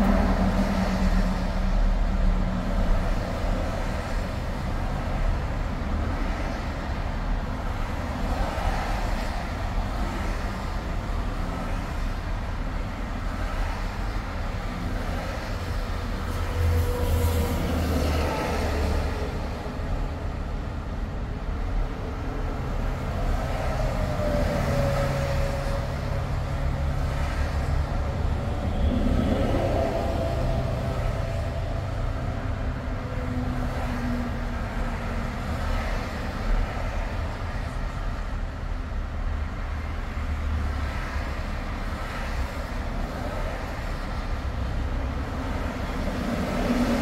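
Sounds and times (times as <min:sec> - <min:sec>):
road and tyre noise: 0:00.0 - 0:47.0.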